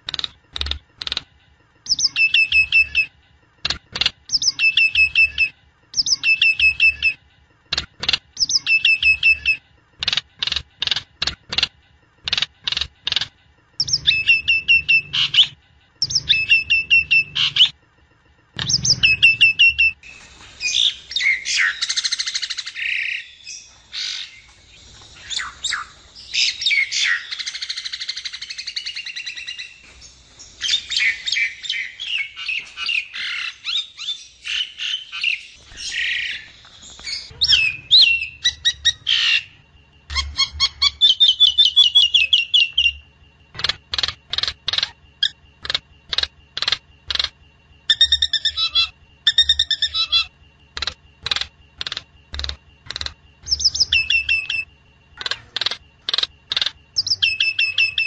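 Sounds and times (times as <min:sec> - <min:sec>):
myna bird singing: 0:00.0 - 0:58.0.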